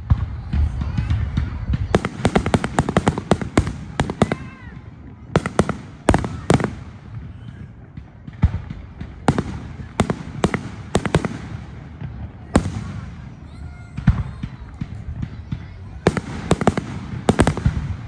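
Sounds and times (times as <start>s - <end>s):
fireworks bursting with bangs: 0.0s - 18.0s.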